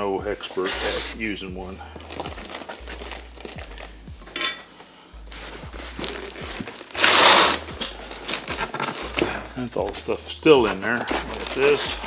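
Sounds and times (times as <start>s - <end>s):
packing material rustling: 0.0s - 12.0s.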